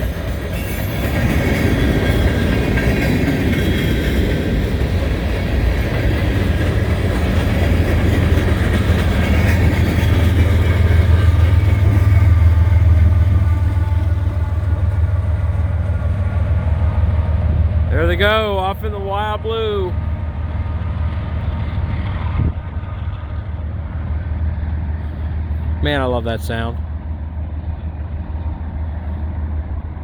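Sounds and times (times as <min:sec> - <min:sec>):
freight train rolling on rails: 0:00.0 - 0:30.0
diesel engine rumble: 0:04.2 - 0:30.0.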